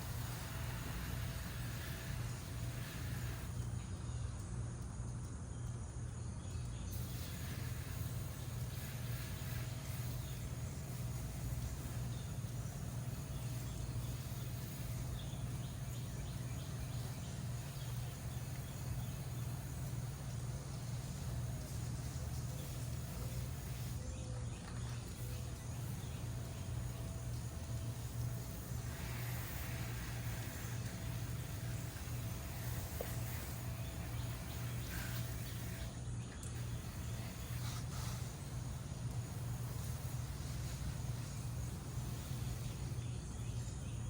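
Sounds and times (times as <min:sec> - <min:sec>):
birds chirping: 0:00.0 - 0:44.0
insects chirping: 0:00.0 - 0:44.0
low machine hum: 0:00.0 - 0:44.0.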